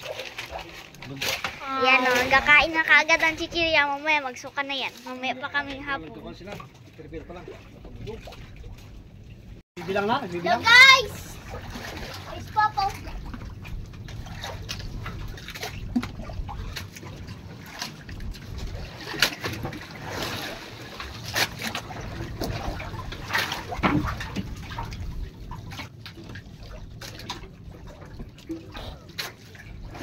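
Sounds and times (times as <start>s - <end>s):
water lapping against boat hull: 0.0s - 30.0s.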